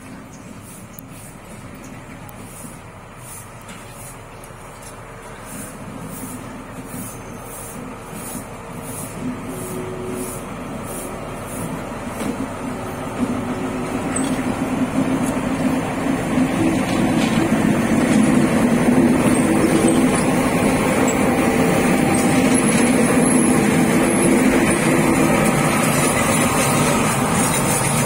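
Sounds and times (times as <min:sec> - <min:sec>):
locomotive engine hum: 0:00.0 - 0:28.0.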